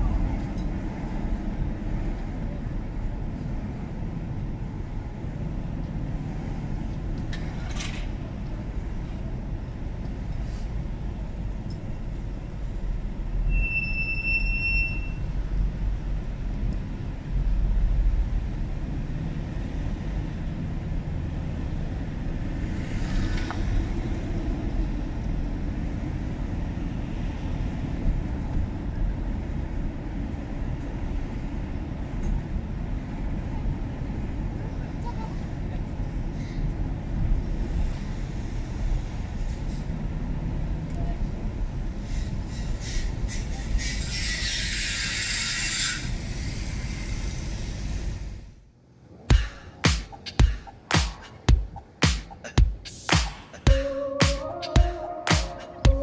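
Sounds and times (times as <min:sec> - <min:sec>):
car engine and tyre rumble: 0:00.0 - 0:53.8.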